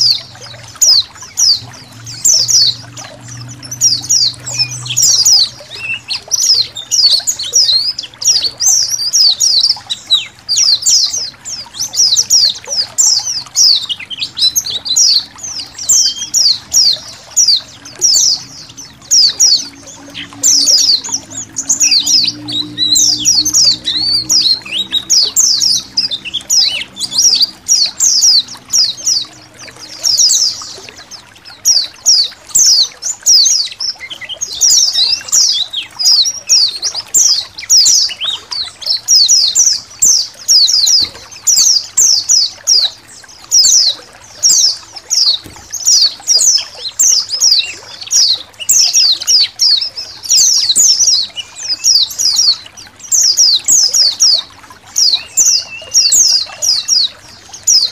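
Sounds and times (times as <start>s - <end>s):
birds chattering: 0.0s - 57.9s
trickling water: 0.0s - 57.9s.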